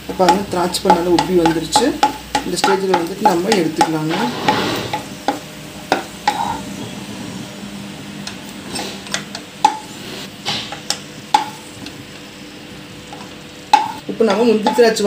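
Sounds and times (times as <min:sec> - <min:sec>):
spatula scraping and tapping pan: 0:00.0 - 0:06.6, 0:08.2 - 0:12.3, 0:13.1 - 0:15.0.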